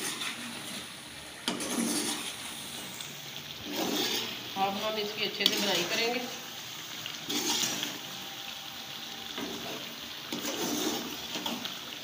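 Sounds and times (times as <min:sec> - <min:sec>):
spatula stirring: 0:00.0 - 0:06.4, 0:07.1 - 0:08.1, 0:09.4 - 0:11.8
gravy sizzling and sloshing: 0:00.0 - 0:12.0.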